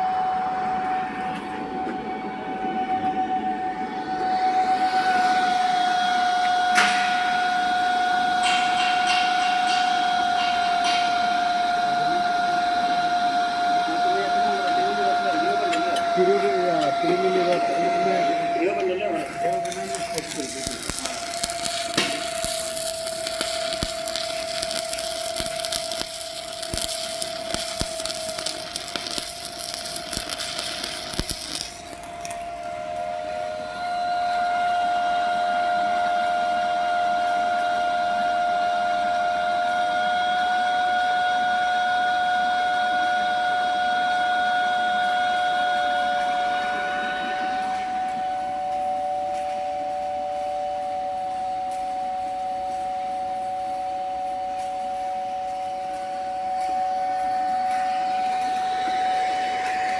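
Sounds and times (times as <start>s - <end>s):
high-pitched whine: 0.0s - 59.9s
arc welding crackling hiss: 4.2s - 59.9s.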